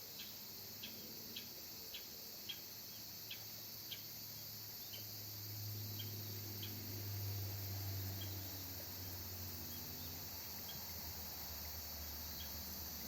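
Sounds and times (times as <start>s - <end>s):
insects chirping: 0.0s - 13.0s
steady high hiss: 0.0s - 13.0s.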